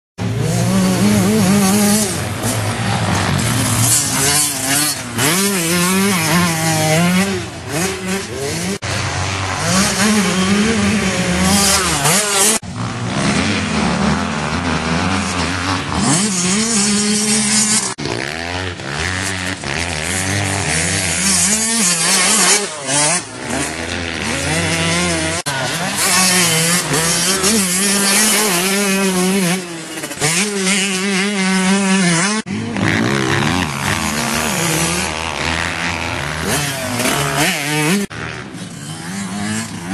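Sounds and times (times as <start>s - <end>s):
motocross bike engine revving: 0.2s - 39.9s.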